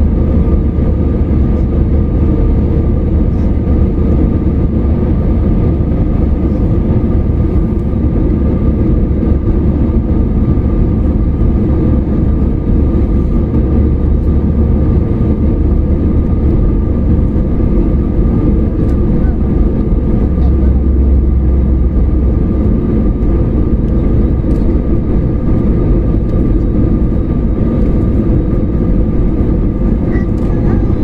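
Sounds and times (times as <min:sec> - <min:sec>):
airliner cabin engine rumble: 0:00.0 - 0:31.0.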